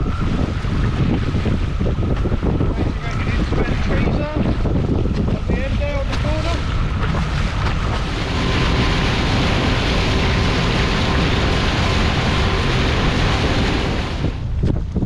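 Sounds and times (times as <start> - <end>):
wind and sea rushing: 0.0 - 15.0.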